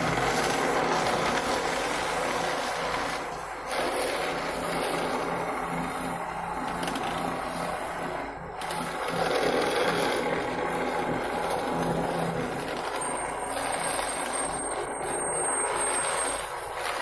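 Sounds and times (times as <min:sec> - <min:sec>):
road repair machinery engine: 0:00.0 - 0:17.0.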